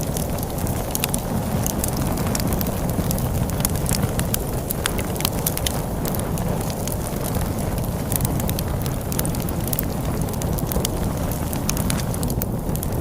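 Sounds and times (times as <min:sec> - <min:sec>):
storm wind rushing: 0:00.0 - 0:13.0
wood fire crackling and popping: 0:00.0 - 0:13.0.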